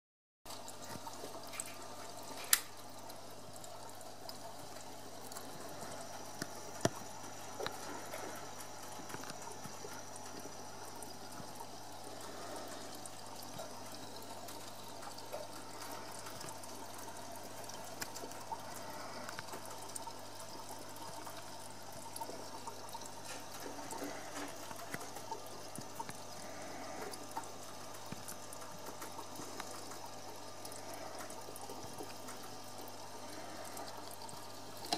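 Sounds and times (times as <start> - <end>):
aquarium water trickling: 0.5 - 34.9.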